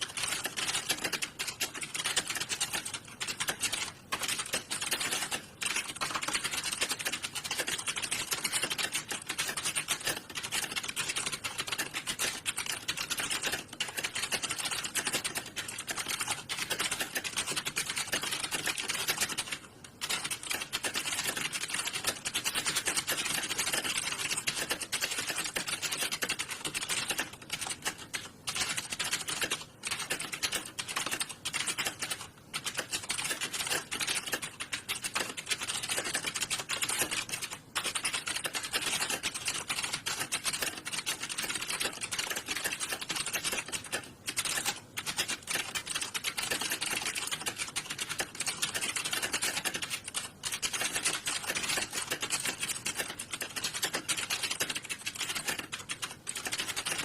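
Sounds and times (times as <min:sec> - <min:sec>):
keyboard keys typing fast: 0:00.0 - 0:57.0.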